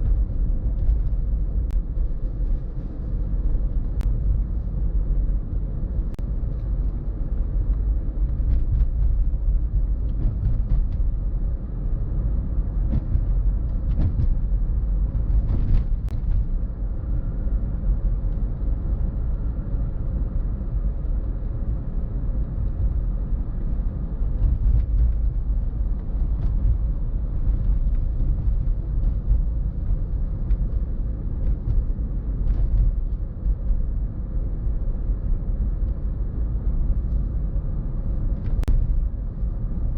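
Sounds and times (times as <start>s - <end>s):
tyre and wind noise: 0.0s - 39.9s.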